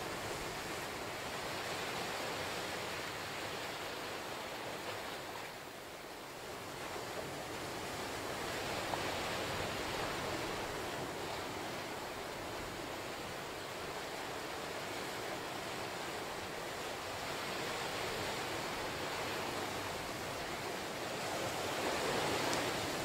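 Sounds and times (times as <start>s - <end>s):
small waves breaking on sand: 0.0s - 23.0s.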